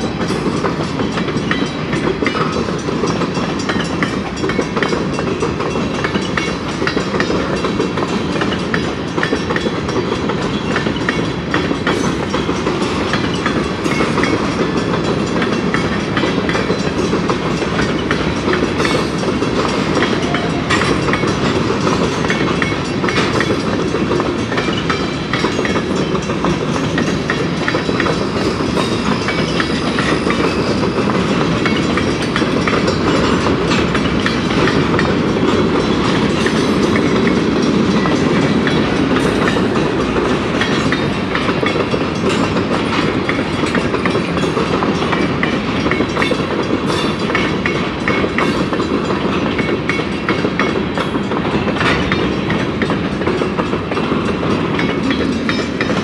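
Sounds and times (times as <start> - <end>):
freight train wheels rumbling on rails: 0.0 - 56.0
wheel clicks and clacks: 0.0 - 56.0.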